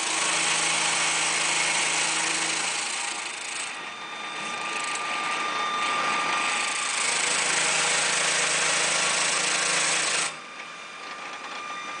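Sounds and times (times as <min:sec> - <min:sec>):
concrete grinder running: 0:00.0 - 0:11.6.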